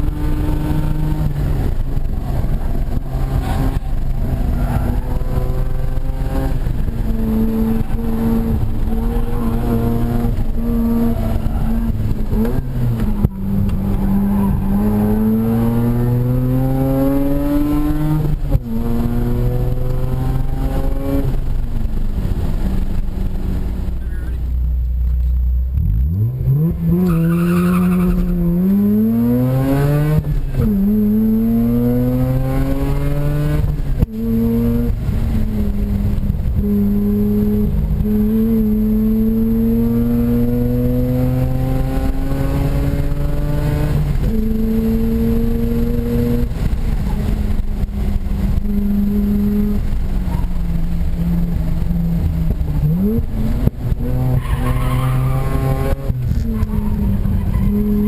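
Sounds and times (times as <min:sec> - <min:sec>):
rotary engine revving: 0:00.0 - 0:23.6, 0:25.8 - 0:58.0.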